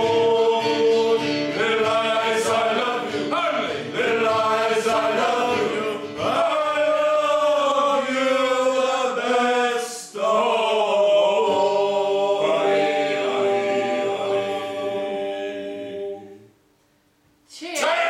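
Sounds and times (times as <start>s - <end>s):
group singing in harmony: 0.0s - 16.6s.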